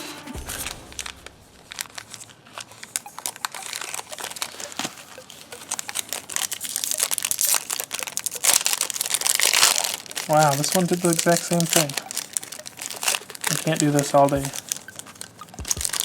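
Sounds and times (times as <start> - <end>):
foil wrapper crinkling and tearing: 0.4 - 16.0.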